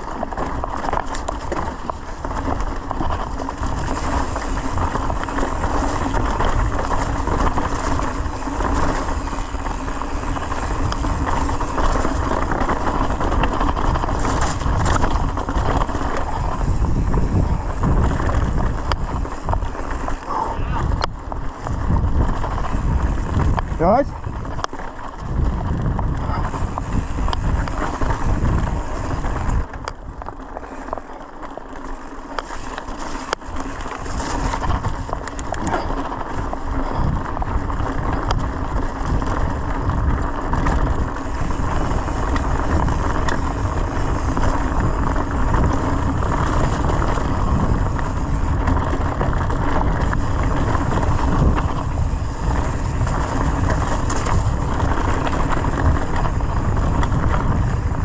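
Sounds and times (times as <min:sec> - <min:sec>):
bike knocks and rattles: 0:00.0 - 0:58.0
bike tyres over leaves and dirt: 0:00.0 - 0:58.0
wind buffeting microphone: 0:00.0 - 0:58.0.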